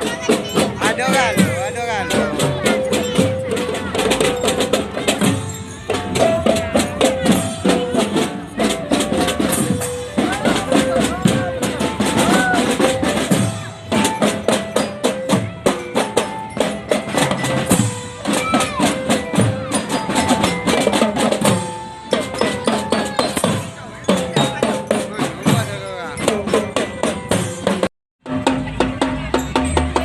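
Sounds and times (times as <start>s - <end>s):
rapid percussive hits: 0.0s - 30.0s.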